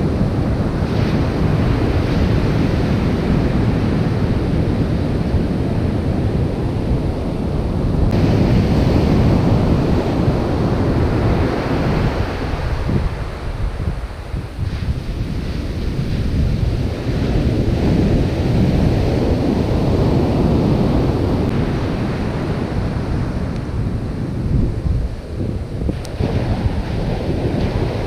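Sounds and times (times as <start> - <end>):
surf running up the beach: 0.0 - 28.0
wind buffeting microphone: 0.0 - 28.0.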